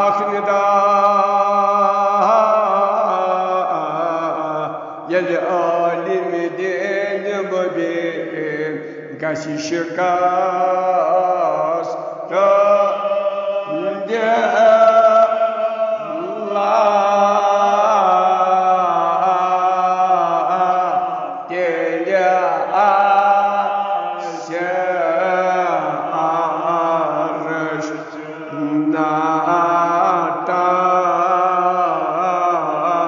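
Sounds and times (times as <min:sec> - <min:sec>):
elderly man chanting: 0:00.0 - 0:33.0.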